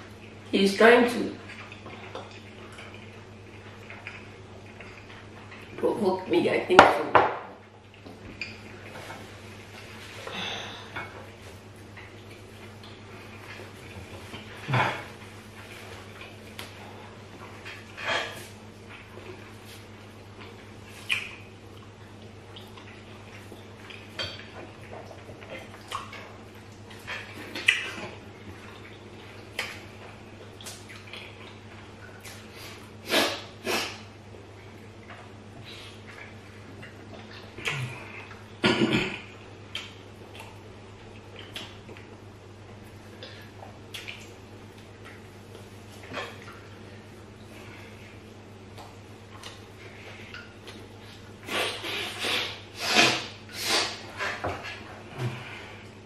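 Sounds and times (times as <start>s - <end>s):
steady low hum: 0.0s - 56.0s
people chewing and eating: 1.4s - 5.8s, 7.6s - 56.0s.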